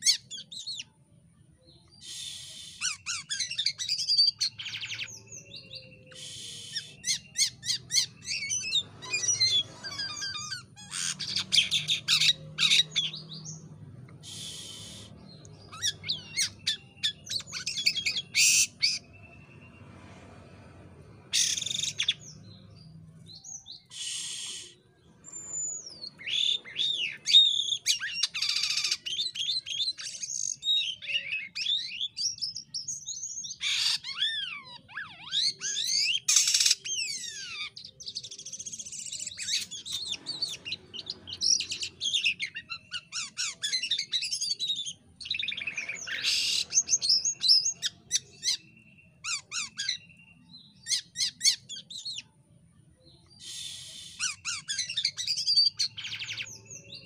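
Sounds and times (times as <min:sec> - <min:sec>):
starling singing: 0:00.0 - 0:01.0, 0:01.7 - 0:52.4, 0:53.0 - 0:57.0.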